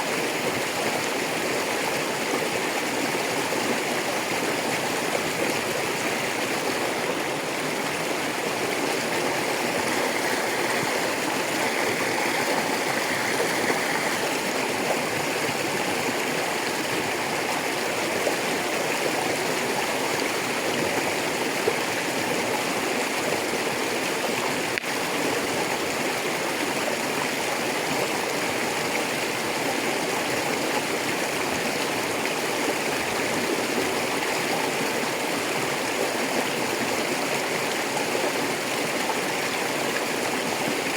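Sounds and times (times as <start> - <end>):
river flowing over stones: 0.0 - 40.9.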